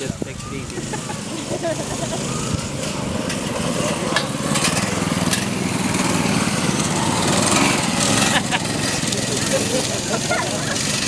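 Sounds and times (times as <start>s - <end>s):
mini bike engines buzzing: 0.0s - 11.0s.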